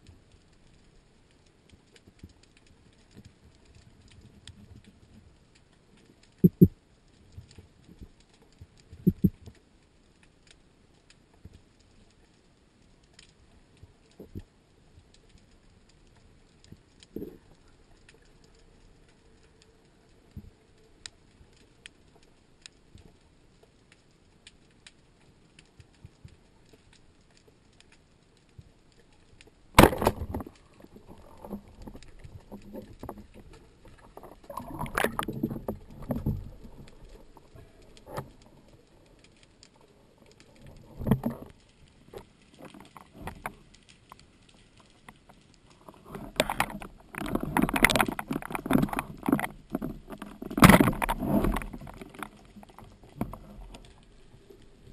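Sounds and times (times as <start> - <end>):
faint underwater clicks: 0.0 - 54.9.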